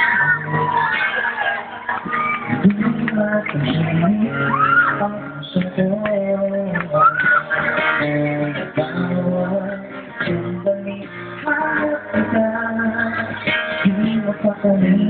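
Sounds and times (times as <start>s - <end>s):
live band guitar instrumental: 0.0s - 15.0s.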